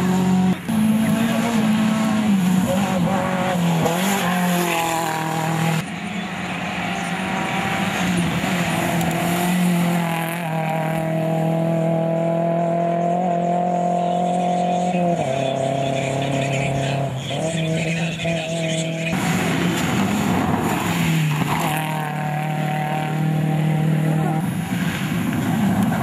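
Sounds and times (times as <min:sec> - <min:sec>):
car engine running steadily: 0:00.0 - 0:26.0
rally car engine revving: 0:00.0 - 0:26.0.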